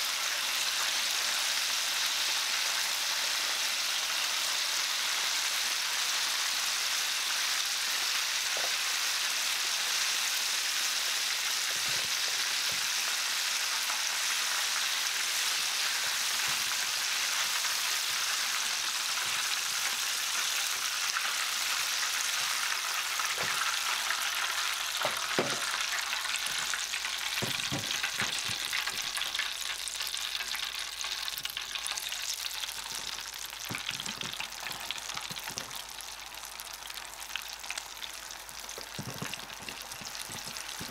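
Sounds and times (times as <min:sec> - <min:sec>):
chicken deep-frying in oil: 0:00.0 - 0:40.9.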